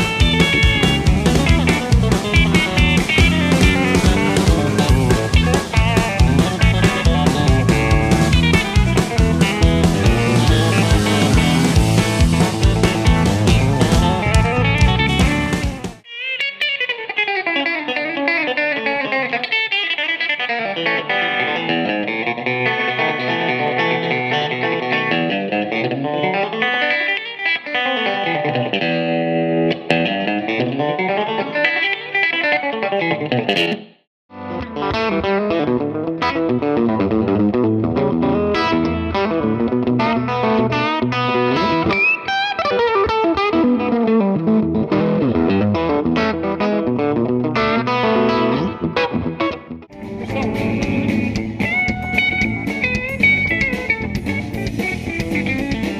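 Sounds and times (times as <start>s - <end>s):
electric guitar picking runs: 0.0s - 33.8s, 34.4s - 55.9s
distorted electric guitar: 0.0s - 55.9s.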